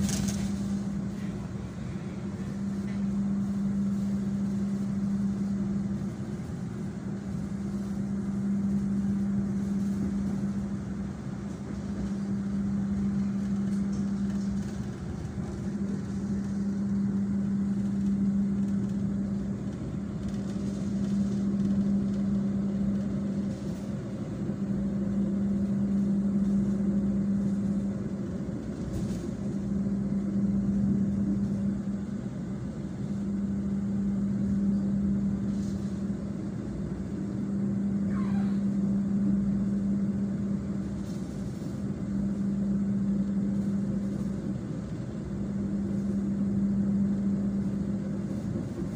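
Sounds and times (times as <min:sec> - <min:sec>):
steady hum: 0:00.0 - 0:48.9
train running noise: 0:00.0 - 0:48.9.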